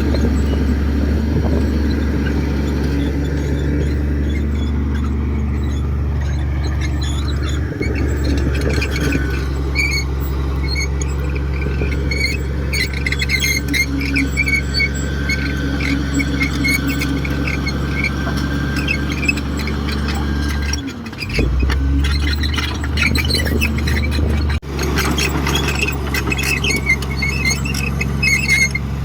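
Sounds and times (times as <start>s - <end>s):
bulldozer diesel engine running: 0.0s - 29.0s
short high squeals: 1.6s - 28.9s.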